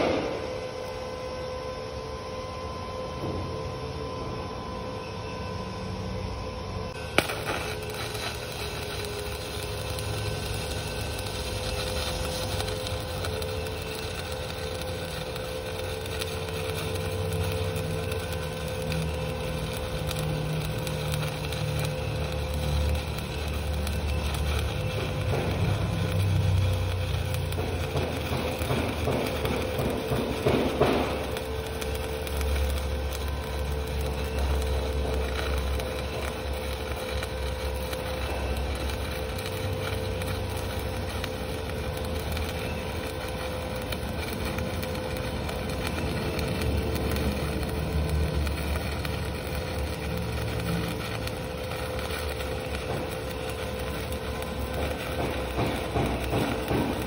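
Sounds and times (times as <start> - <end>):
welding arc pop: 0.0 - 1.0, 7.0 - 57.0
welding arc crackling: 0.0 - 1.8, 6.9 - 57.0.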